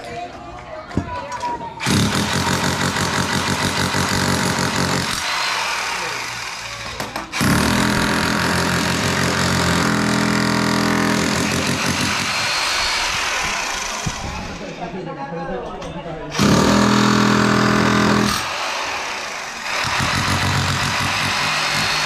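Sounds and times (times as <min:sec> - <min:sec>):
hammer drill breaking concrete: 0:01.8 - 0:14.4, 0:16.4 - 0:22.0.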